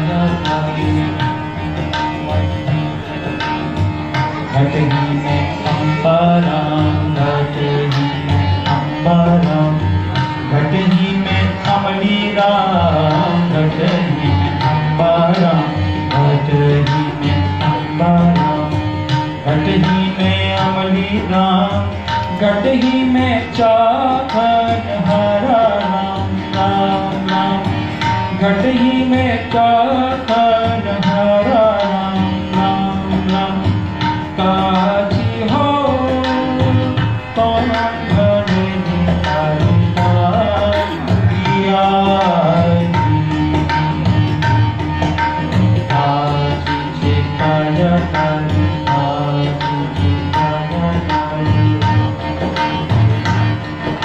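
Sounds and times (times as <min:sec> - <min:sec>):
man singing: 0:00.0 - 0:01.3, 0:04.2 - 0:52.2
harmonium melody: 0:00.0 - 0:54.0
tabla rhythm: 0:00.0 - 0:54.0.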